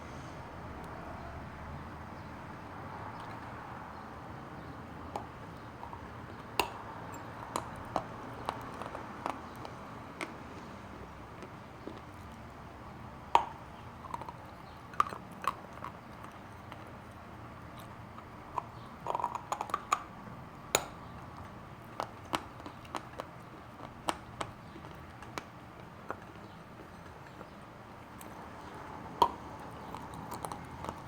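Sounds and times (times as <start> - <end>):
chalk crunching while chewed: 5.1 - 31.0.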